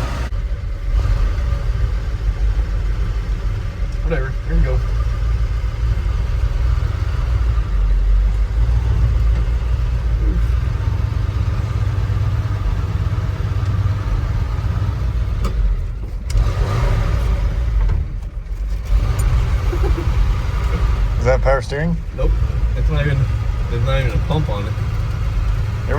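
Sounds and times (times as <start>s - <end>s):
truck engine rumbling: 0.0s - 25.9s.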